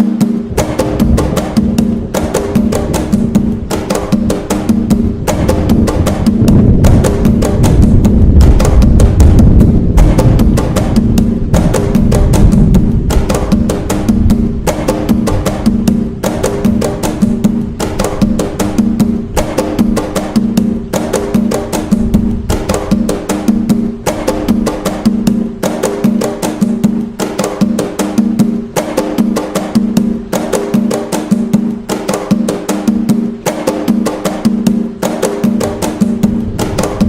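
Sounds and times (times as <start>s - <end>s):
hand drum playing fast rhythm: 0.0s - 37.0s.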